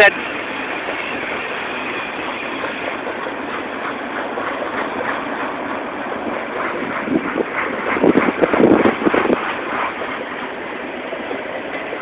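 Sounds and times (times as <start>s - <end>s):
steel wheels rolling on rail: 0.0s - 12.0s.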